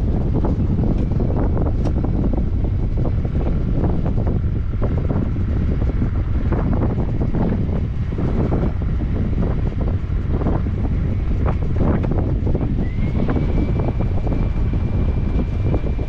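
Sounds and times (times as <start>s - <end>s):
vehicle running noise: 0.0s - 16.0s
wind buffeting microphone: 0.0s - 16.0s.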